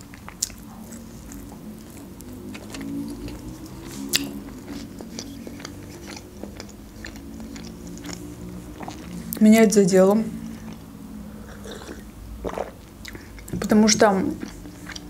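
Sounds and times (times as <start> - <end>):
chewing toasted bread: 0.0 - 15.0.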